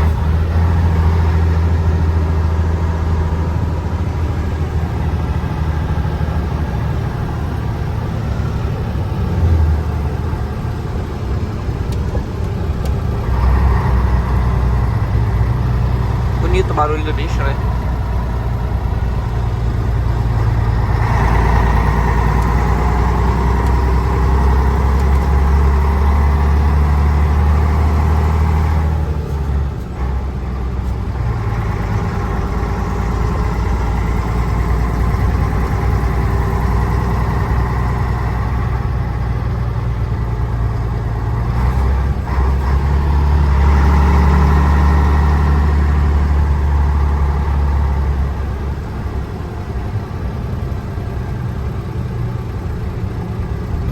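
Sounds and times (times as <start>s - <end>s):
diesel truck engine under load: 0.0s - 53.9s.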